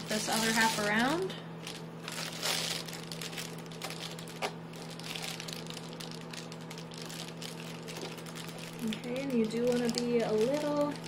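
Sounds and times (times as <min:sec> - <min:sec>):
foil insulation crinkling: 0:00.0 - 0:11.0
steady low hum: 0:00.0 - 0:11.0.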